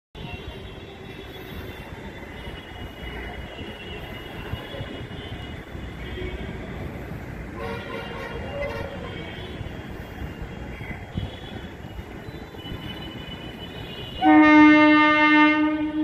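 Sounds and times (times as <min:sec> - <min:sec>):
train rumbling on tracks: 0:00.2 - 0:16.0.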